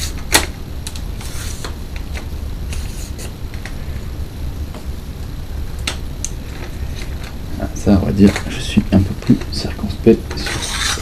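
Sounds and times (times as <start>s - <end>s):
steady low rumble: 0.5s - 10.4s.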